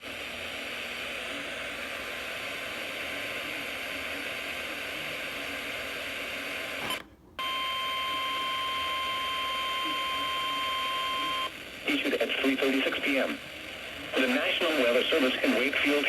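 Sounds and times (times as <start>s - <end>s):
radio static hiss: 0.0s - 7.0s, 8.0s - 16.0s.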